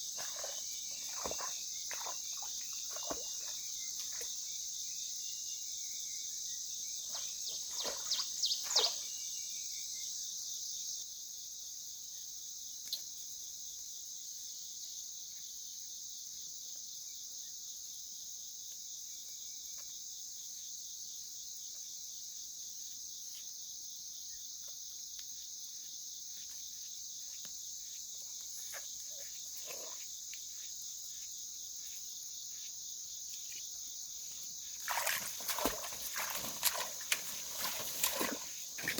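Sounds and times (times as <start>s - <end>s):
night insects chorus: 0.0s - 38.9s.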